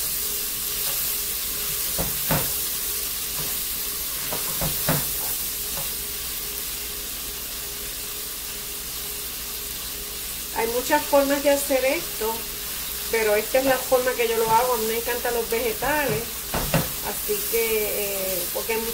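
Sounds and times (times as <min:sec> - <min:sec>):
food sizzling in oil: 0:00.0 - 0:18.9.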